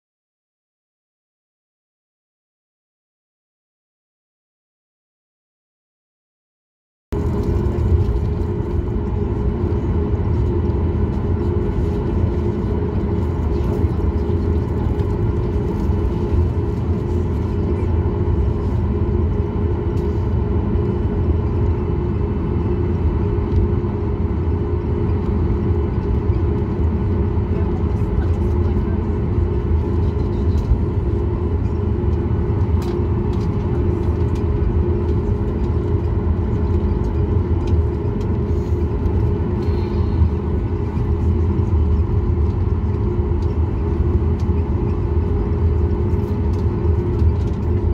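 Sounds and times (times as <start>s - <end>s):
jet engines humming: 7.2s - 47.9s.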